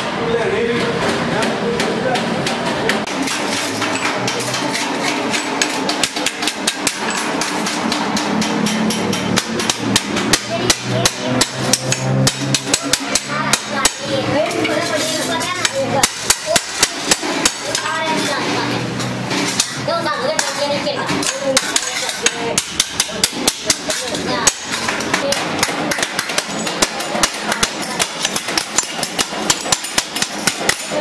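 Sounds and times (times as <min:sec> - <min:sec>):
hammer beating metal sheet: 0:00.0 - 0:31.0.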